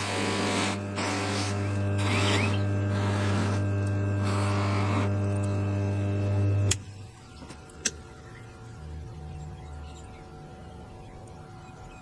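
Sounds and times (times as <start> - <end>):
bench buffer motor humming: 0.0 - 12.0.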